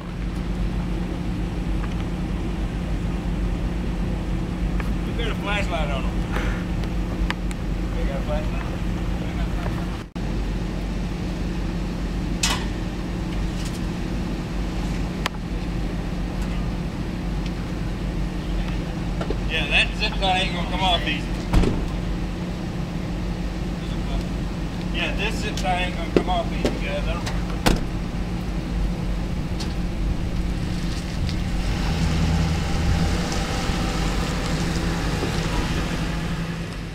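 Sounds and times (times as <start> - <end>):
vehicle engine idling: 0.0 - 36.9.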